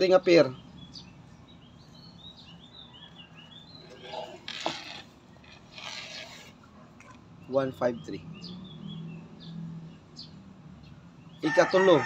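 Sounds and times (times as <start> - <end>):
bird chirping: 0.0 - 11.5.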